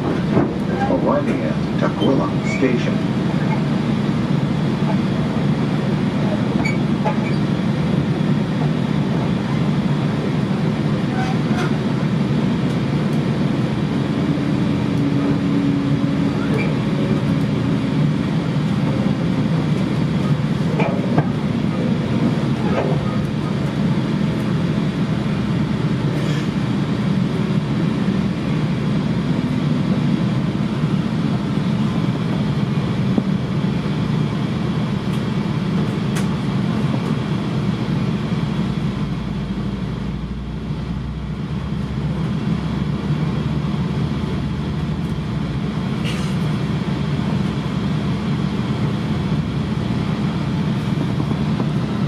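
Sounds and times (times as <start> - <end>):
train coach rumbling on rails: 0.0 - 52.0.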